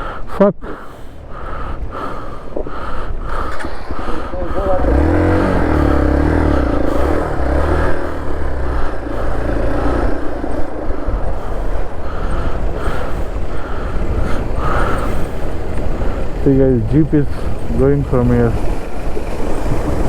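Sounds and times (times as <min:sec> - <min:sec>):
vehicle engine running: 0:01.9 - 0:20.0.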